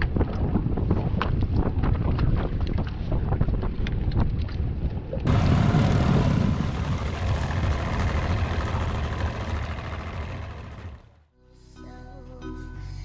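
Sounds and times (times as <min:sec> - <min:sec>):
wind noise on microphone: 0:00.0 - 0:10.6
boat motor and hull rumble: 0:00.0 - 0:11.3.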